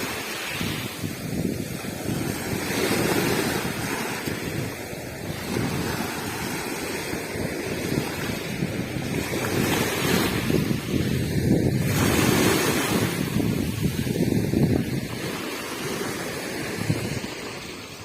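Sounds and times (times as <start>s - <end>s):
sea waves washing onto beach: 0.0s - 18.0s
wind buffeting microphone: 0.0s - 18.0s.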